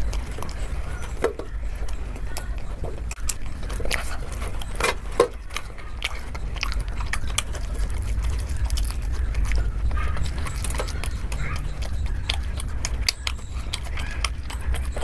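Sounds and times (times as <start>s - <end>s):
person chewing food: 0.0s - 15.0s
steady low hum: 0.0s - 15.0s.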